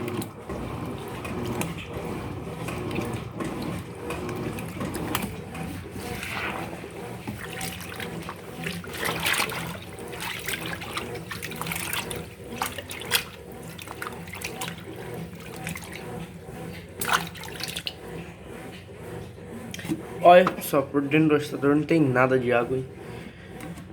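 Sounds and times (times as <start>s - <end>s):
washing machine motor hum: 0.0s - 23.9s
water splashing in washing machine: 0.0s - 23.9s.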